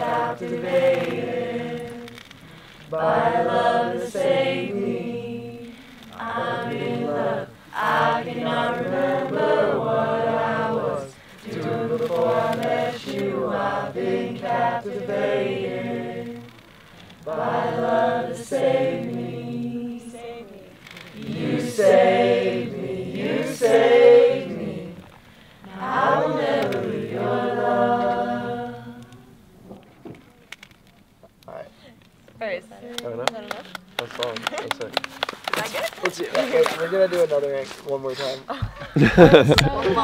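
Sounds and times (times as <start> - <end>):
voices singing unaccompanied: 0.0 - 30.2, 38.1 - 40.0.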